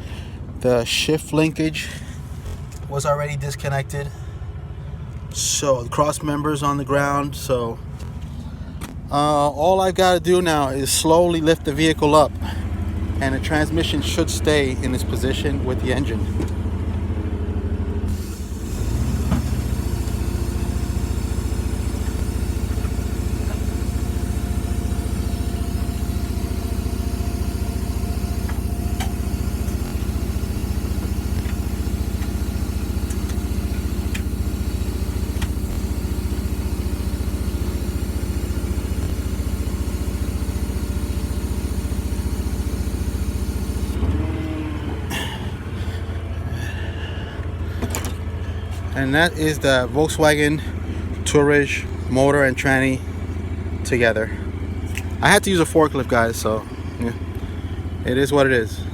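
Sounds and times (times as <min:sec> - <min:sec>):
lifting machine motor drone: 0:00.0 - 0:05.6, 0:07.3 - 0:58.9.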